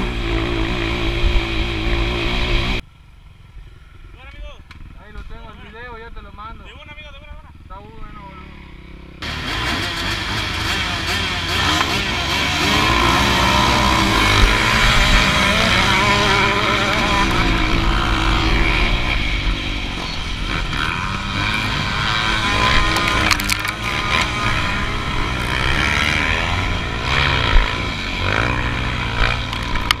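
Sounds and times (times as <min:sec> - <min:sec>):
motocross engines revving: 0:00.0 - 0:02.8, 0:03.9 - 0:30.0.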